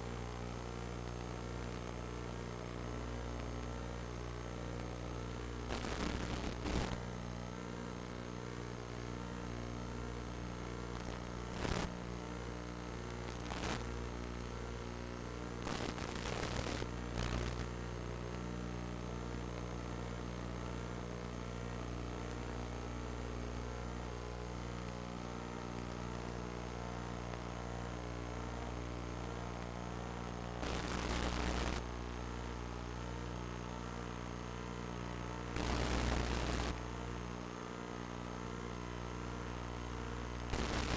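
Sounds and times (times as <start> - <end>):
static-like hiss bursts: 0.0 - 9.6, 10.2 - 18.2, 22.2 - 40.9
electrical hum and buzz: 0.0 - 40.9.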